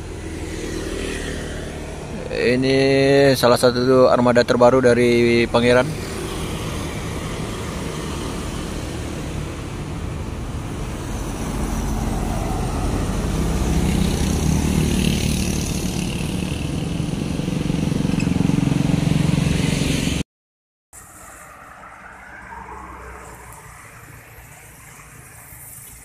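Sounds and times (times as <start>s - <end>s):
minibus driving past: 0.0s - 20.2s, 21.0s - 26.0s
motorcycles passing: 0.0s - 20.2s, 21.0s - 26.0s
road traffic passing: 0.0s - 20.2s, 21.0s - 26.0s.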